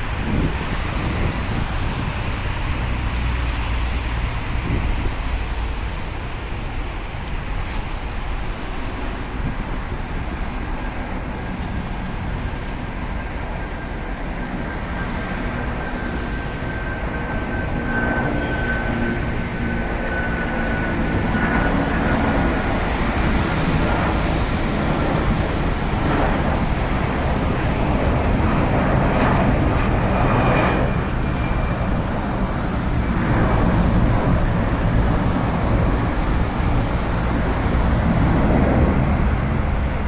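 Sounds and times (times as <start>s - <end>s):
faint high engine whine: 0.0s - 40.0s
jet engines rumbling: 0.0s - 40.0s.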